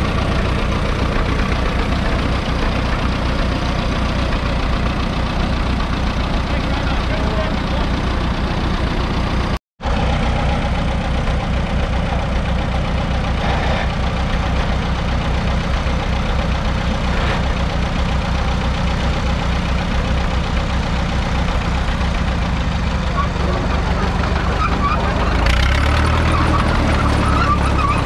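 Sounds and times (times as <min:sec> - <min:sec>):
crawler tractor engine running: 0:00.0 - 0:28.0.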